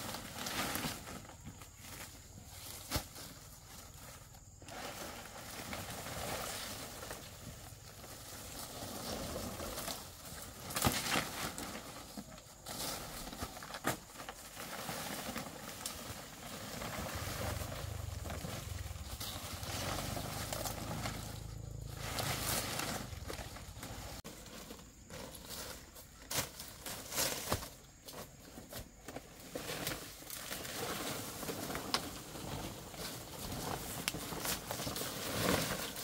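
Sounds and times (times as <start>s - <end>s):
palm fronds rustling and scraping: 0.0s - 36.0s
steps on leaf litter: 0.0s - 36.0s.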